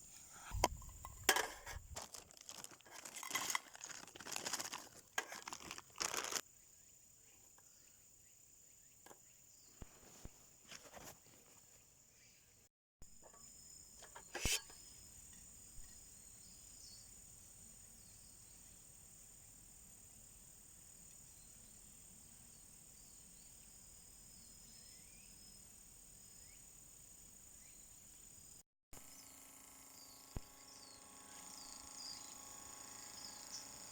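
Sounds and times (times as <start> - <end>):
faint insect drone: 0.0 - 33.9.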